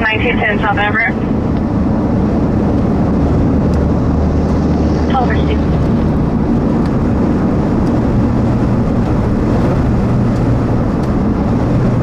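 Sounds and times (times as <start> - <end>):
low hum: 0.0 - 12.0
road noise: 0.0 - 12.0
strong wind: 0.0 - 12.0.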